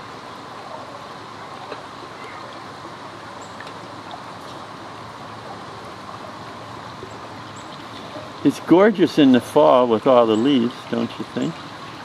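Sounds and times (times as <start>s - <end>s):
boat moving through water: 0.0s - 12.0s.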